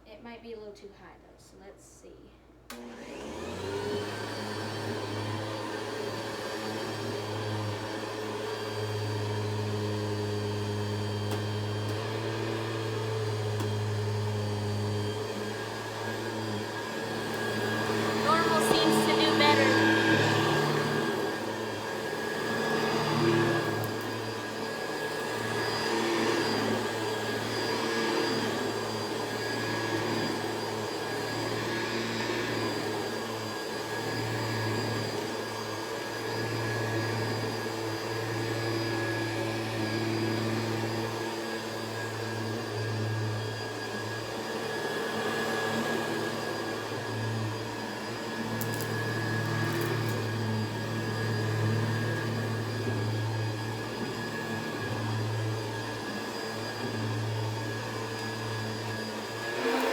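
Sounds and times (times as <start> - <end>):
vacuum cleaner running on carpet: 2.7 - 59.9.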